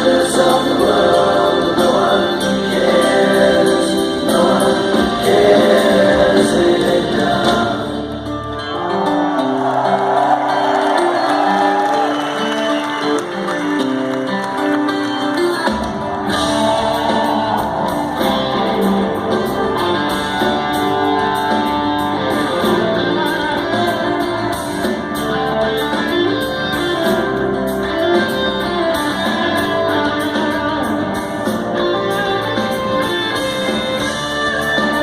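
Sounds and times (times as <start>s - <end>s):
bass guitar: 0.0s - 35.0s
guitars: 0.0s - 35.0s
rock band playing live: 0.0s - 35.0s.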